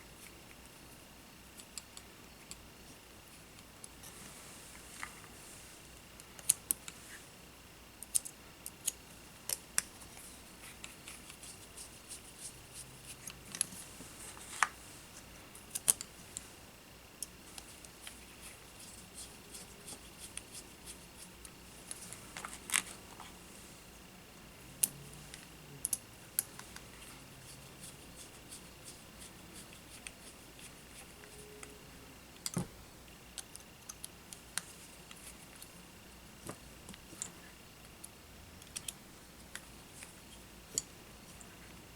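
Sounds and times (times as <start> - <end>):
faint high-pitched whine: 0.0 - 41.9.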